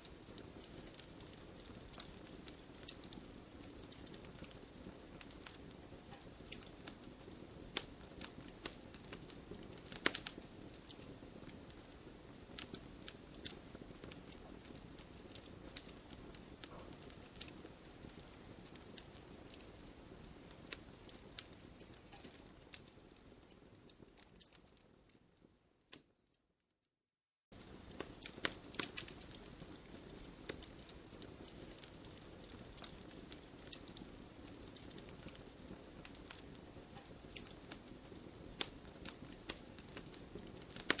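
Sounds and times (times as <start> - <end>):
fire hissing: 0.0 - 23.4, 27.6 - 41.0
campfire crackling and popping: 0.0 - 26.2, 27.5 - 41.0.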